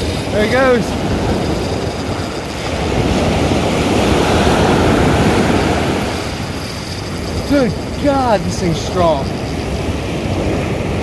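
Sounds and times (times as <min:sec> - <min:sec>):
ocean surf rushing: 0:00.0 - 0:11.0
wave breaking: 0:00.1 - 0:11.0.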